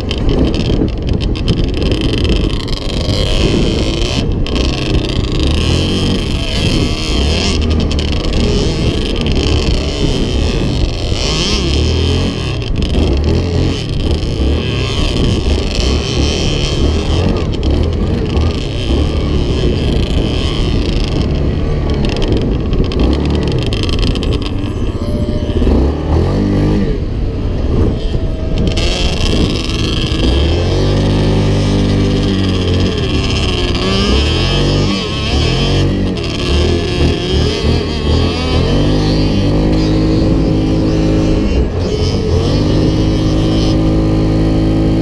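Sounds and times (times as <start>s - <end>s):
off-road vehicle engines revving: 0.0s - 45.0s.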